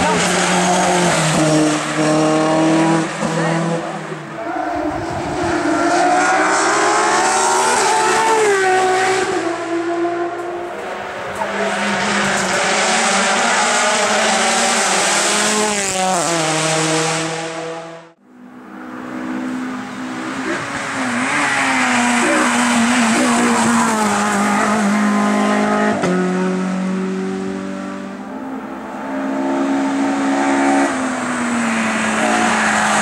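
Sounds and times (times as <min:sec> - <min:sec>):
race car accelerating: 0:00.0 - 0:33.0
race car engine at full throttle: 0:00.0 - 0:33.0.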